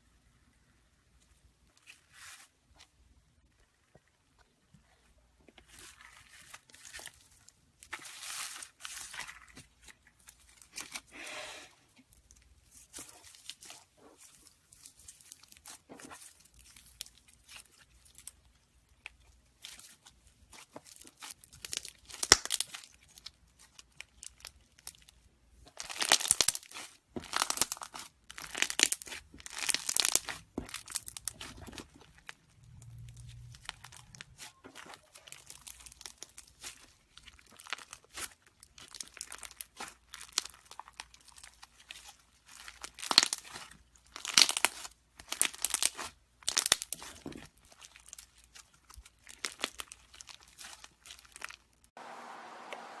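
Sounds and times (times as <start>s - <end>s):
foam slime crackling and crunching: 4.8s - 11.2s, 12.1s - 52.0s.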